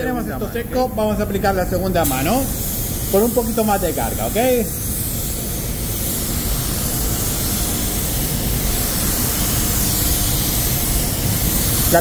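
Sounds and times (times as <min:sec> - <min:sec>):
spray gun air hissing: 0:00.0 - 0:12.0.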